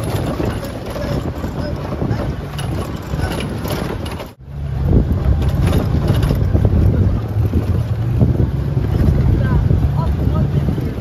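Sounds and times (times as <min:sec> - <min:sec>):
gravel road noise: 0:00.0 - 0:11.0
vehicle engine rumble: 0:00.0 - 0:11.0.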